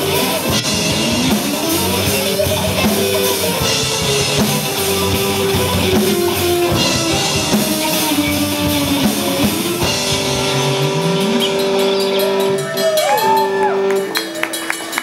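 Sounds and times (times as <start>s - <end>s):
distorted electric guitar: 0.0s - 15.0s
drum kit: 0.0s - 15.0s.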